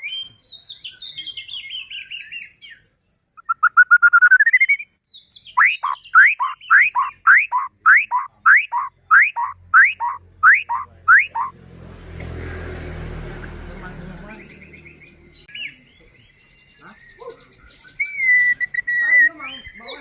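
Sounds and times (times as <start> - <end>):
songbird singing whistles: 0.0 - 11.5, 14.2 - 20.0.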